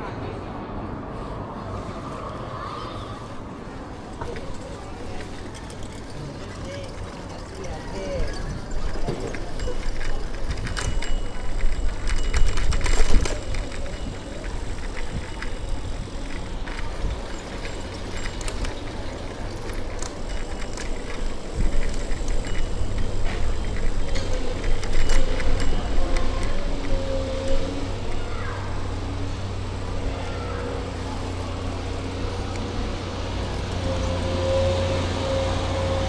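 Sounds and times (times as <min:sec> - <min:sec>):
bicycle rolling rumble: 0:00.9 - 0:36.0
bike rattling clicks: 0:04.2 - 0:30.1, 0:30.7 - 0:34.6.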